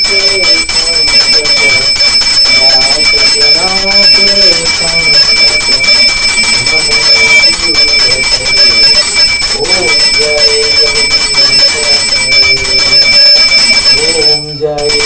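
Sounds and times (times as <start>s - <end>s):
person chanting: 0.0s - 1.9s, 2.5s - 6.0s, 6.6s - 13.0s, 13.9s - 15.0s
hand bell ringing rapidly: 0.0s - 15.0s.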